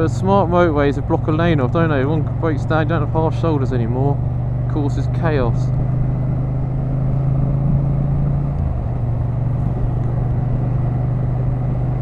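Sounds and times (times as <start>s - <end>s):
motorcycle engine droning: 0.0s - 12.0s
wind and road noise: 0.0s - 12.0s.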